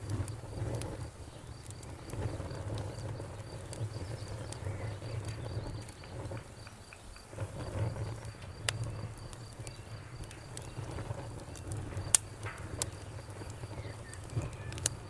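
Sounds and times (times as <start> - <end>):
cricket chirping: 0.0 - 15.0
wood fire crackling and popping: 0.0 - 15.0.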